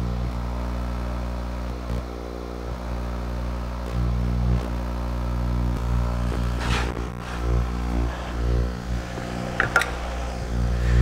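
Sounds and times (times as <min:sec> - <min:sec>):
buzzy electrical hum: 0:00.0 - 0:11.0.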